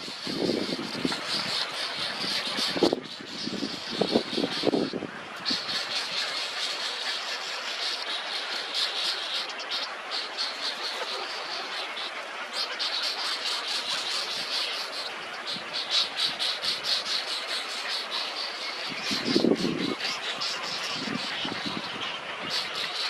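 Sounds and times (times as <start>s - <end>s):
steady forest background hiss: 0.0s - 23.0s.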